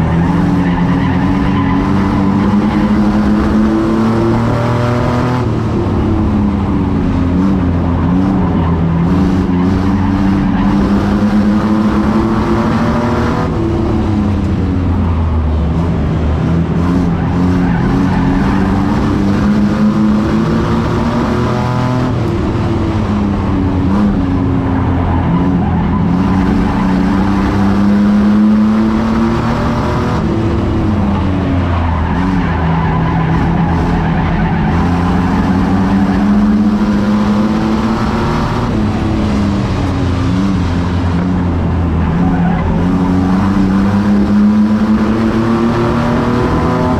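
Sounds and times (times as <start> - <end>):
truck engine racing: 0.0 - 46.9.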